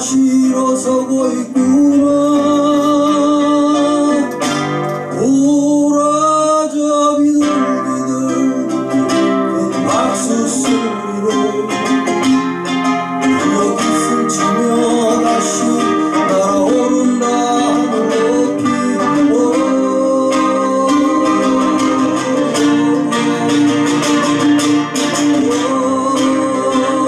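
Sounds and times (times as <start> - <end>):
classical guitar: 0.0 - 27.0
man singing: 0.0 - 27.0.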